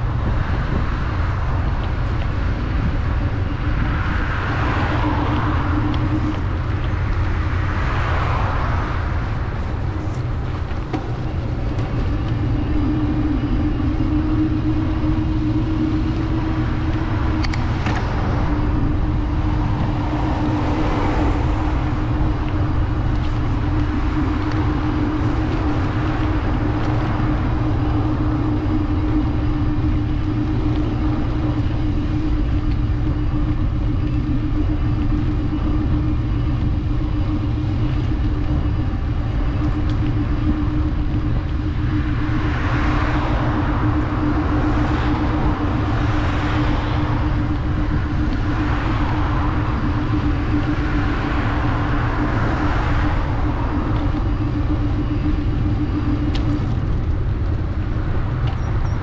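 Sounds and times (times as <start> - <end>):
traffic rumble and hum: 0.0 - 59.0
vehicles passing: 0.0 - 59.0.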